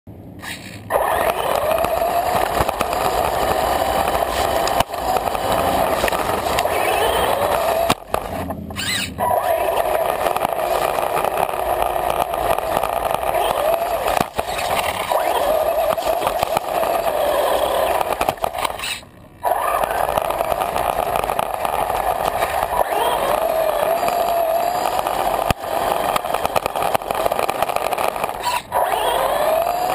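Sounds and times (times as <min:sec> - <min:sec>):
radio-controlled car motor whining: 0:00.4 - 0:29.9
tyres grinding over gravel and leaves: 0:00.7 - 0:26.6.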